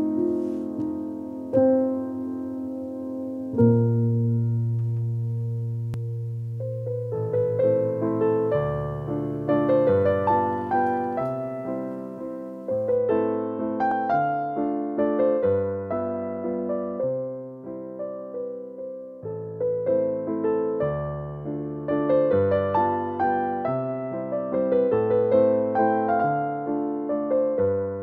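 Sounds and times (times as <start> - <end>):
slow solo piano: 0.0 - 28.0.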